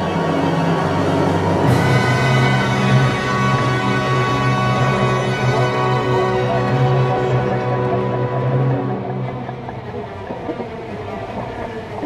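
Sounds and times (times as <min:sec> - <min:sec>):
deep sustained bass: 0:00.0 - 0:10.1
music with held tones: 0:00.0 - 0:10.9.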